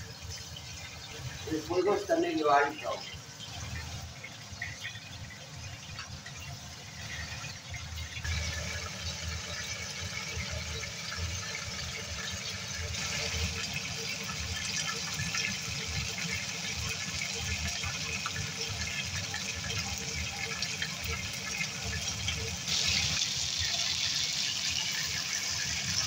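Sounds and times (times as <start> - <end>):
chicken sizzling in oil: 0.0 - 26.0.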